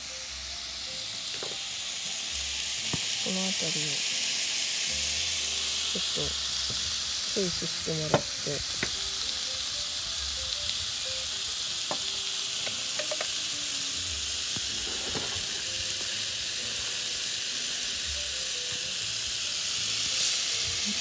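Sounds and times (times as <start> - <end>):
chicken sizzling on grill: 0.0 - 21.0.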